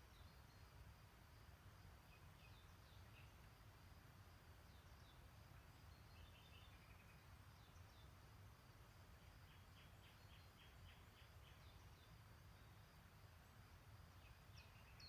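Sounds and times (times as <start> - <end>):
faint birdsong chirps and trills: 0.0 - 15.0.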